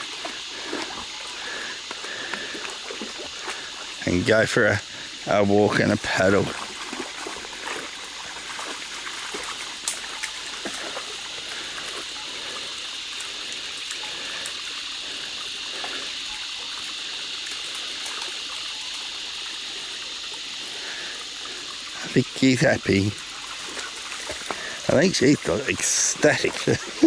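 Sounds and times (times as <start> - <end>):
small water splashes: 0.0 - 4.0, 5.8 - 27.0
creek water trickling: 0.0 - 27.0.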